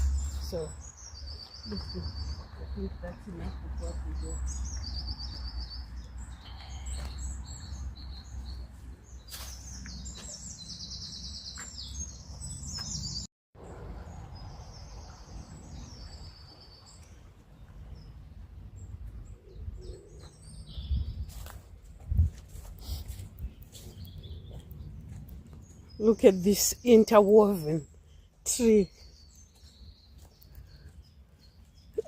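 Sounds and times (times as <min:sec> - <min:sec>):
songbirds trilling: 0:00.0 - 0:13.3, 0:14.2 - 0:21.6, 0:22.5 - 0:32.0.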